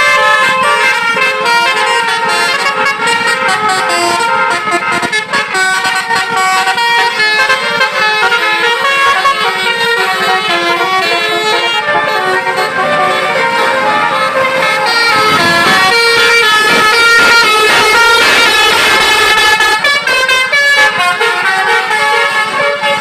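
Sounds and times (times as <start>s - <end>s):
multi-tone vehicle horn tune: 0.0s - 23.0s.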